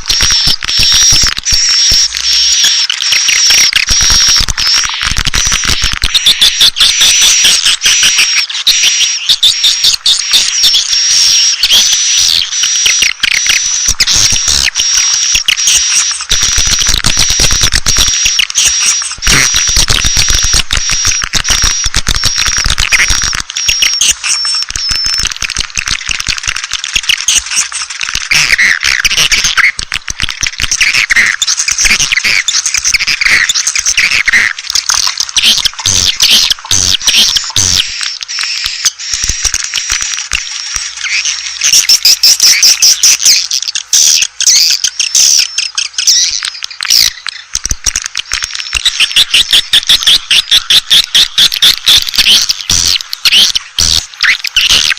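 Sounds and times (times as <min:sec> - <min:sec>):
swiftlets twittering and clicking: 0:00.0 - 0:54.9.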